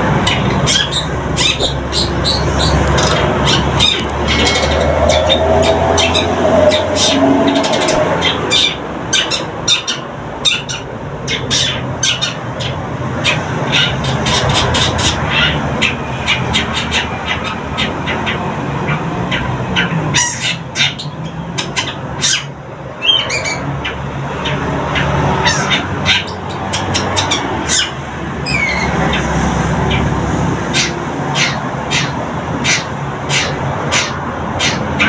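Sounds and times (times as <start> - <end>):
bird chattering harsh notes: 0.1 - 35.0.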